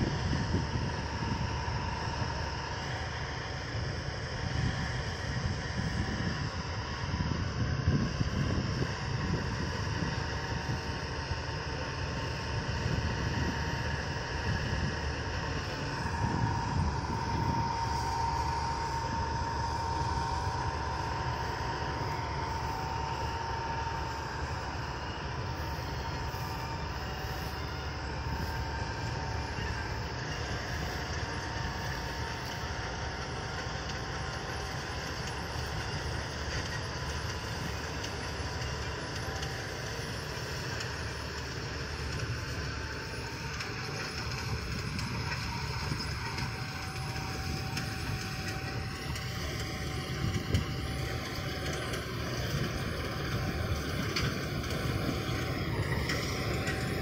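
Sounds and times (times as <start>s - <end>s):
combine harvester rumbling: 0.0s - 57.0s
mechanical whine: 0.0s - 57.0s.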